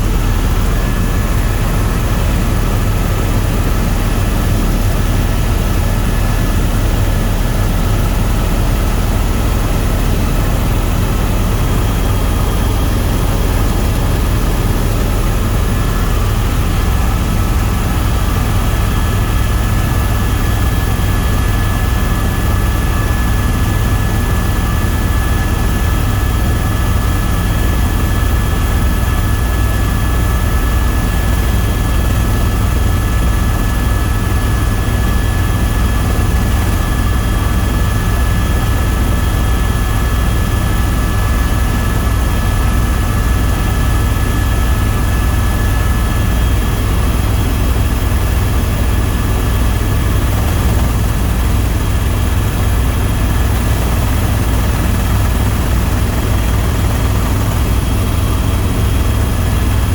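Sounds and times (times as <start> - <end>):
helicopter rotor and turbine rumble: 0.0 - 59.9.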